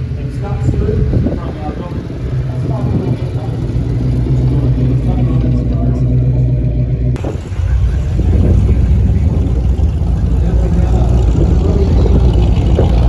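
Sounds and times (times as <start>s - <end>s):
car engines rumbling: 0.0s - 13.0s
loud engine rumble: 0.0s - 13.0s.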